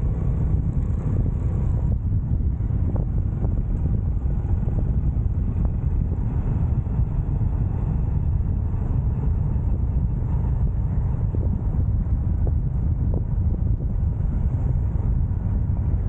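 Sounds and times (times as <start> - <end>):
motorcycle wind and road noise: 0.0 - 16.0.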